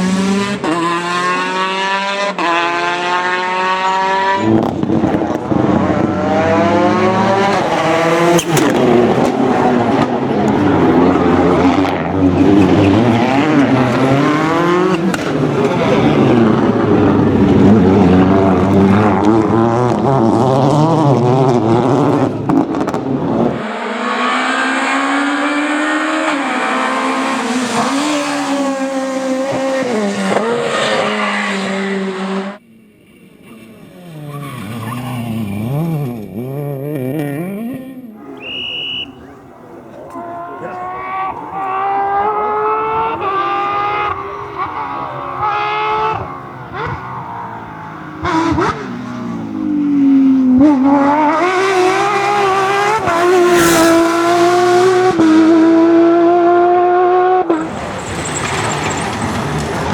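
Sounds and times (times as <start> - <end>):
rally car engine at full throttle: 0.0 - 59.9.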